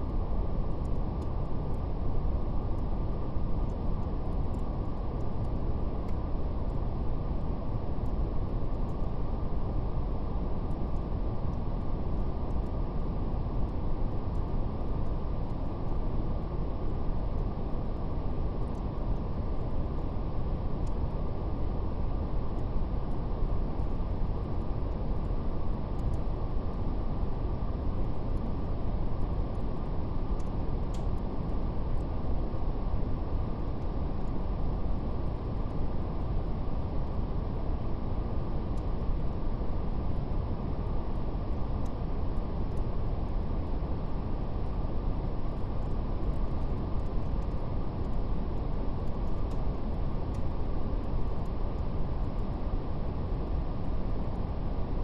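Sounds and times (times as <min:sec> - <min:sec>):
fire crackling faintly: 0:00.0 - 0:55.0.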